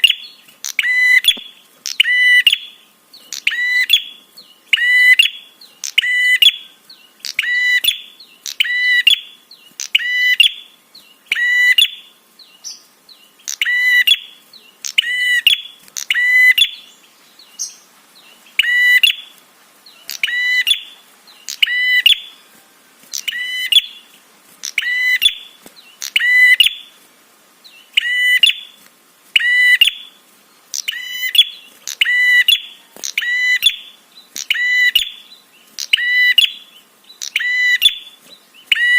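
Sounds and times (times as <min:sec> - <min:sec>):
bird buzzy chirping call: 0:00.0 - 0:38.9.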